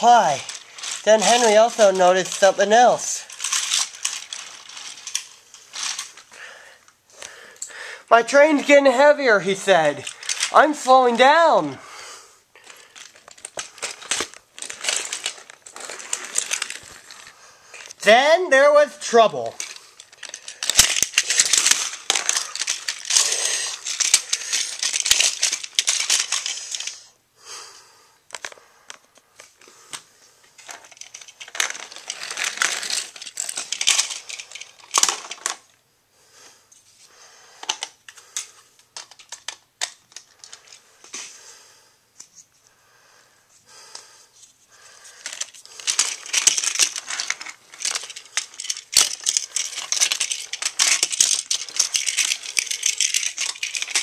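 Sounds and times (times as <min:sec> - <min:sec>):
toy trains clattering on plastic track: 0:00.0 - 0:06.4, 0:08.2 - 0:11.6, 0:12.6 - 0:27.1, 0:28.3 - 0:35.8, 0:37.6 - 0:41.2, 0:45.1 - 0:54.0.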